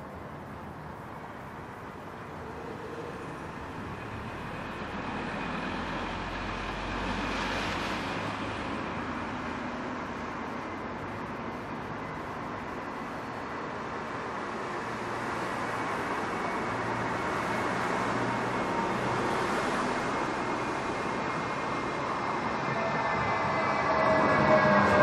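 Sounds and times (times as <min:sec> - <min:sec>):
tram rumble and hiss: 0:00.0 - 0:25.0.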